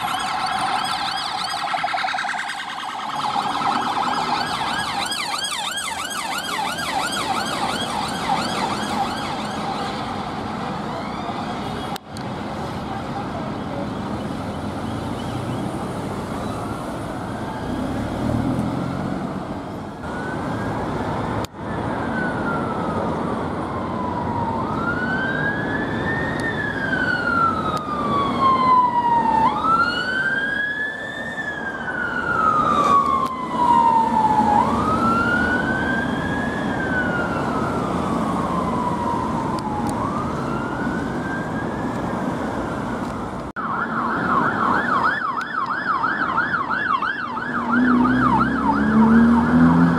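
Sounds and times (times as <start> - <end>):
emergency siren wailing: 0.0 - 12.0, 14.8 - 49.9
passing road traffic: 0.0 - 49.9.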